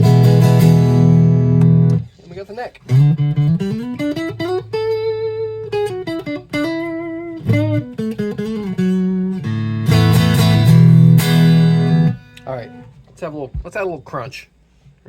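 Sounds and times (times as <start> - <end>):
clean electric guitar melody: 0.0 - 2.1, 2.9 - 13.0.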